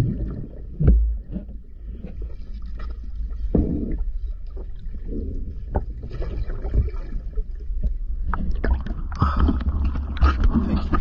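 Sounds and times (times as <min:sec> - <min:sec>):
underwater crackles and bubbling: 0:00.0 - 0:11.0
underwater rumble: 0:00.0 - 0:11.0.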